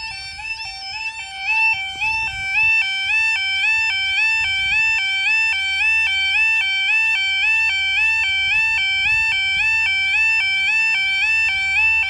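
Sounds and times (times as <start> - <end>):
level crossing alarm two-tone yodel: 0.0 - 12.0.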